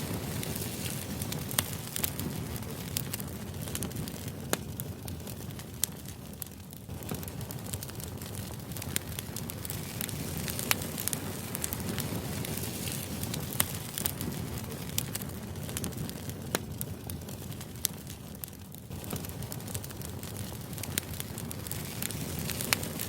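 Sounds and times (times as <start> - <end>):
crackling noise: 0.0 - 23.0.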